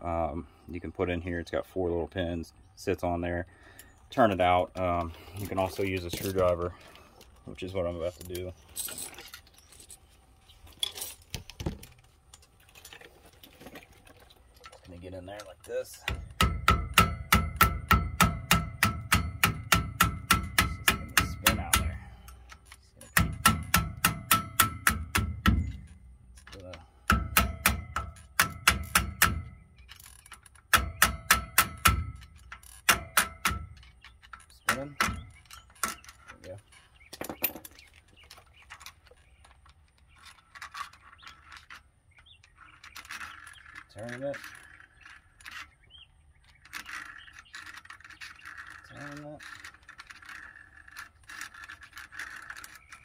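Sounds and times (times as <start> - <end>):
metal clicks and scrapes: 3.7 - 53.0.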